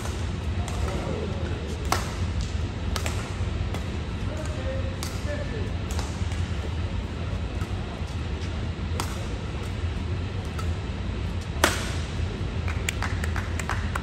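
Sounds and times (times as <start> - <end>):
rackets hitting shuttlecock: 0.0 - 12.9
low hall hum: 0.0 - 14.0.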